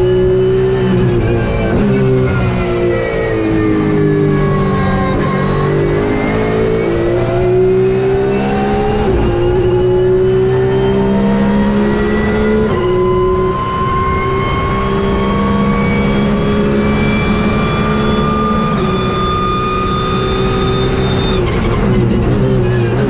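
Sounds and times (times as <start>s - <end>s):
race car engine at full throttle: 0.0s - 23.0s.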